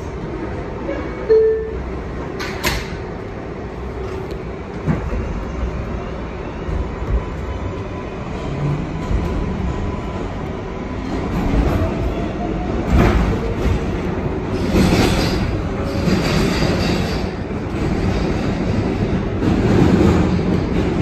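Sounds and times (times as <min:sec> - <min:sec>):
subway train rumble: 0:00.0 - 0:21.0.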